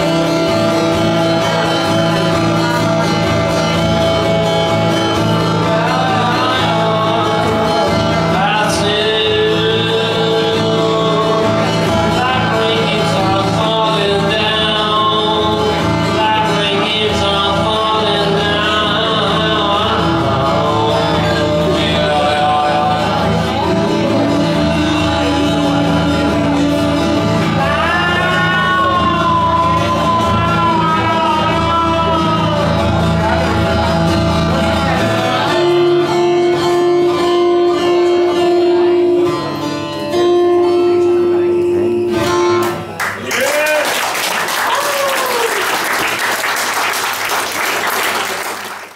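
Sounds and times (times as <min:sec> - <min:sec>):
man singing: 0:00.0 - 0:42.6
acoustic guitar: 0:00.0 - 0:48.9.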